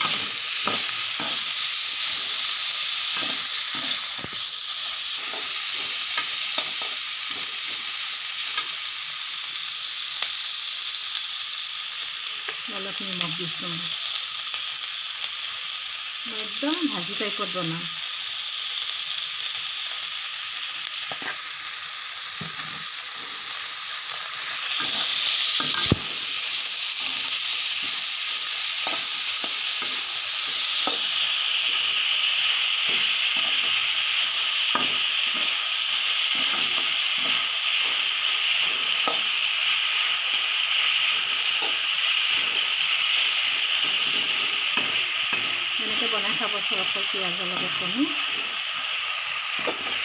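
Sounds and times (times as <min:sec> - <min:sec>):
onions sizzling in hot oil: 0:00.0 - 0:50.0.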